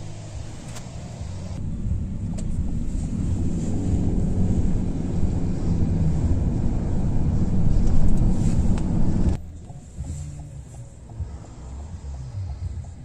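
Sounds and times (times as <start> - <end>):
car engine and tyre noise: 0.0 - 13.0
vehicles passing: 0.0 - 13.0.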